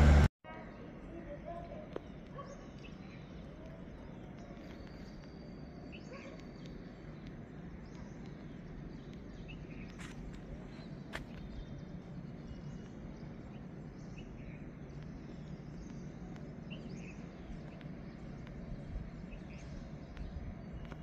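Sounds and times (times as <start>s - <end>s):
faint bird chirps: 0.5s - 21.0s
low background rumble: 2.0s - 21.0s.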